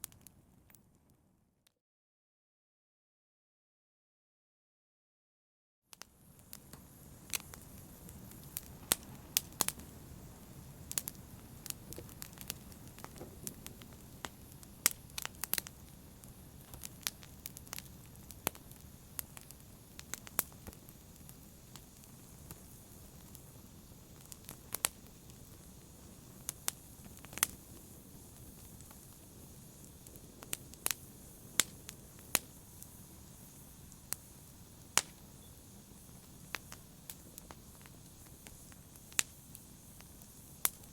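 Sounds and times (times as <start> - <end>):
wood fire crackling and popping: 0.0 - 0.9, 5.9 - 40.9
low rumble of flames: 6.2 - 40.9.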